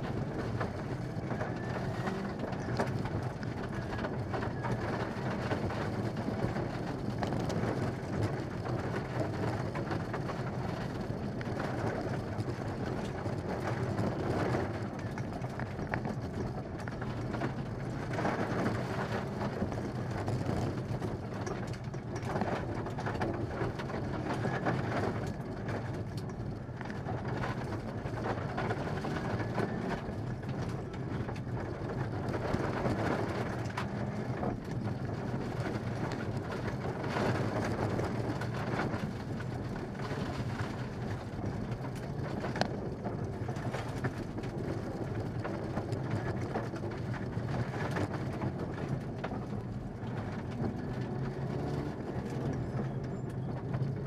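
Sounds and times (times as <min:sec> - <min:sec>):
gravel rattling against underbody: 0:00.0 - 0:54.0
rally car engine under load: 0:00.0 - 0:54.0.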